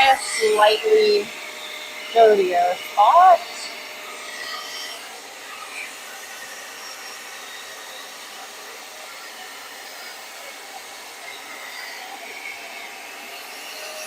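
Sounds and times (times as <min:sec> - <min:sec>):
carpet cleaner suction motor: 0:00.0 - 0:14.0.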